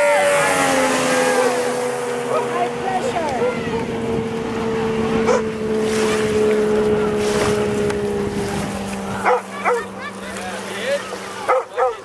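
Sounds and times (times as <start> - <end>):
outboard motor droning: 0.0 - 12.0
wind buffeting microphone: 0.2 - 12.0.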